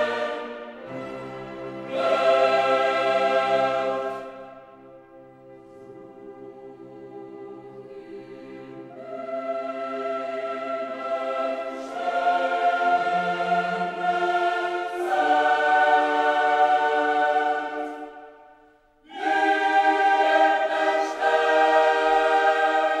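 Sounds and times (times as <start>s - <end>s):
choral music held chords: 0.0s - 23.0s.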